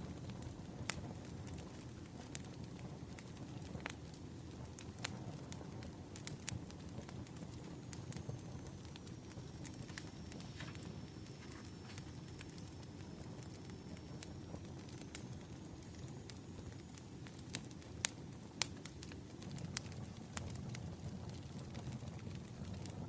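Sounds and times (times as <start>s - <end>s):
fire low rumble: 0.0s - 23.0s
firewood popping and snapping: 0.2s - 23.0s.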